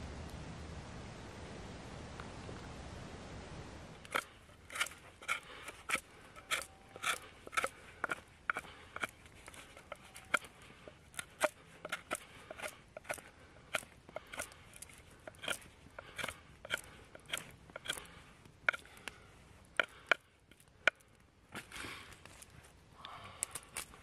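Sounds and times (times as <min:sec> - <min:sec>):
knife carving wood: 0:04.0 - 0:22.7, 0:23.4 - 0:24.0.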